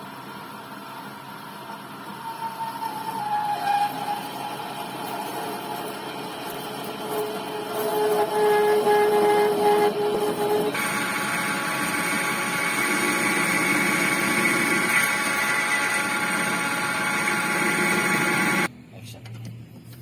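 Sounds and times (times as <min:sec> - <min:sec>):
metal lathe whining drone: 0:00.1 - 0:18.7.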